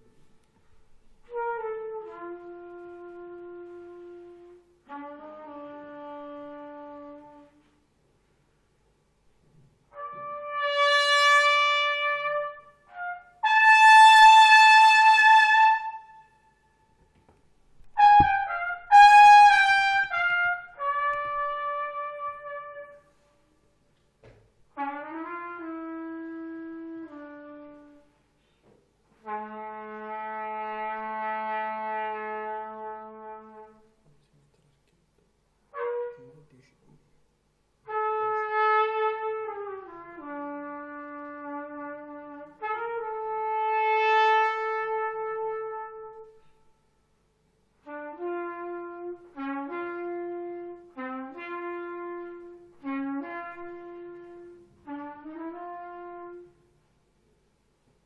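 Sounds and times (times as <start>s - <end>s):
solo trumpet playing: 0.0s - 7.8s, 9.9s - 17.0s, 17.8s - 23.6s, 24.7s - 28.2s, 29.1s - 34.1s, 35.7s - 36.6s, 37.8s - 46.9s, 47.8s - 56.8s.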